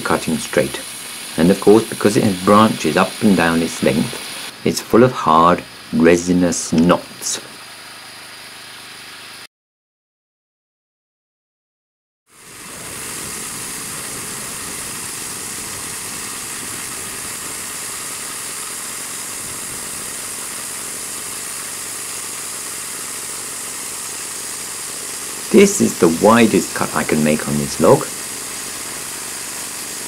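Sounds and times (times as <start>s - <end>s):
bandsaw mill cutting log: 0.0s - 9.5s, 12.3s - 30.0s.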